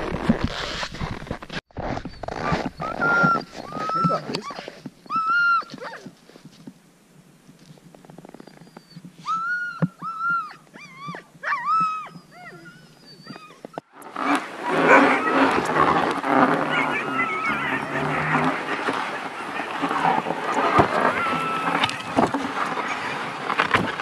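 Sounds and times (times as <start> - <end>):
sled dogs whining and yipping: 1.9 - 6.2, 8.3 - 24.0.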